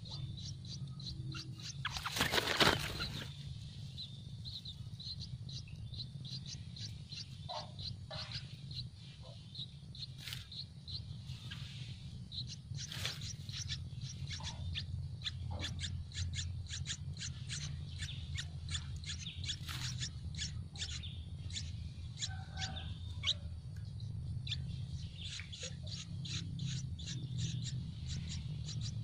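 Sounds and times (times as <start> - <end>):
chicks begging cheeps: 0.0 - 3.3, 4.3 - 23.6, 24.4 - 29.0
steady low hum: 0.0 - 29.0.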